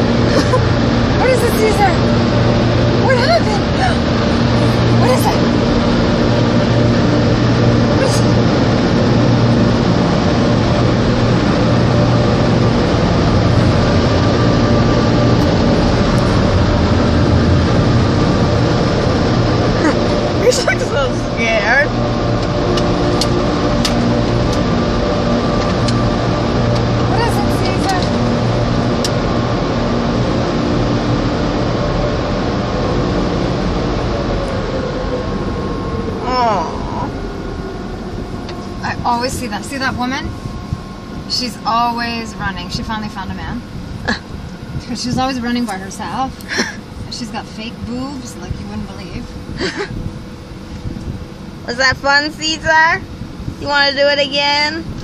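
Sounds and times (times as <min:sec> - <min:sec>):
car wash machinery running: 0:00.0 - 0:55.0
low engine hum: 0:00.0 - 0:55.0.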